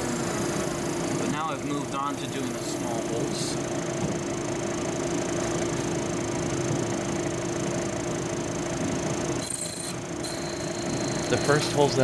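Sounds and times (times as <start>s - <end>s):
drill press humming: 0.0s - 12.0s.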